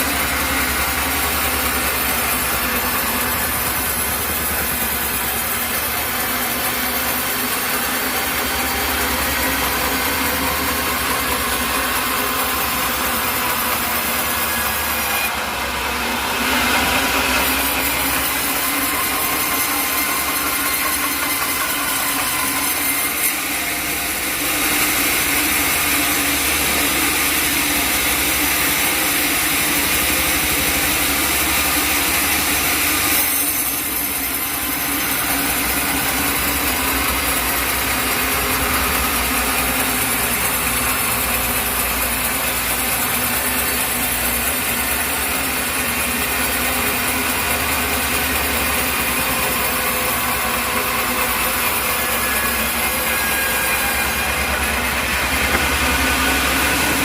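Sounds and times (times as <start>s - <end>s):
saw blade rasping through log: 0.0s - 57.0s
sawmill engine running: 0.0s - 57.0s.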